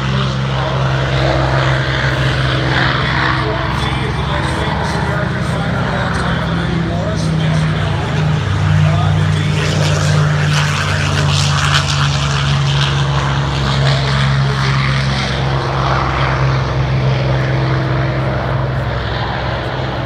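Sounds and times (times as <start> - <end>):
propeller aircraft engine drone: 0.0 - 20.0.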